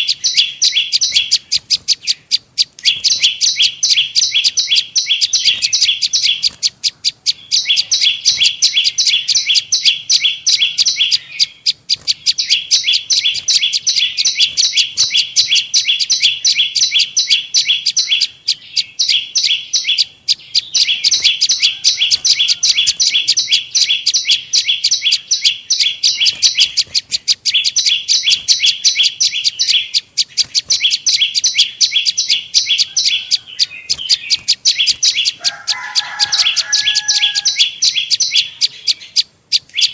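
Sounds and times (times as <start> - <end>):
bird call high chirping notes: 0.0 - 39.9.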